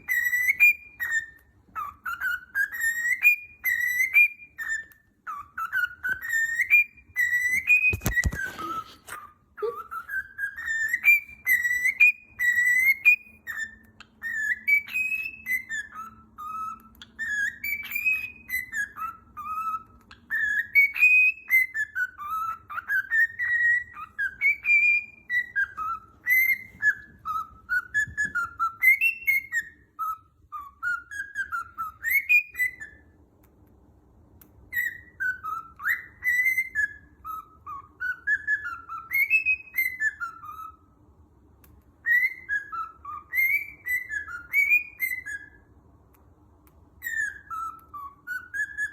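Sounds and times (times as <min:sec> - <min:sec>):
bird whistling a melody: 0:00.0 - 0:33.2, 0:34.4 - 0:46.0, 0:46.9 - 0:48.9.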